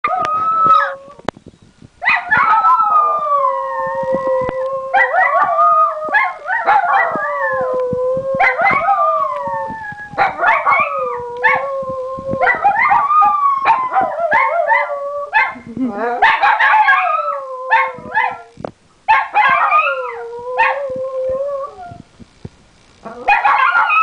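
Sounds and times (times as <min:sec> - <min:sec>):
dogs howling: 0:00.0 - 0:01.2, 0:02.1 - 0:15.6, 0:16.3 - 0:18.6, 0:19.2 - 0:22.0, 0:23.1 - 0:24.0.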